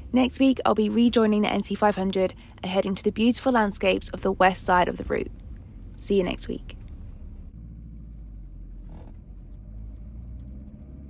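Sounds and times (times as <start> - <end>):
van engine and road rumble: 0.0 - 11.0.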